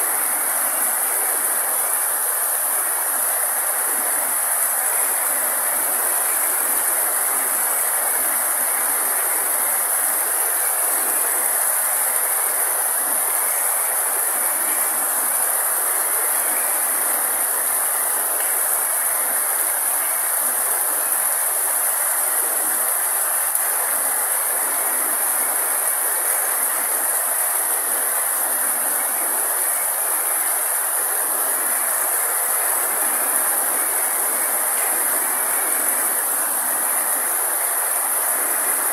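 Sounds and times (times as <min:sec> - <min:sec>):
high-pitched hiss: 0:00.0 - 0:38.9
rain falling on grass and leaves: 0:00.0 - 0:38.9.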